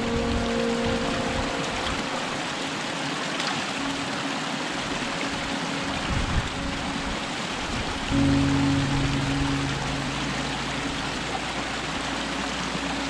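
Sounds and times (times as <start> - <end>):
stream splashing over rocks: 0.0 - 13.0.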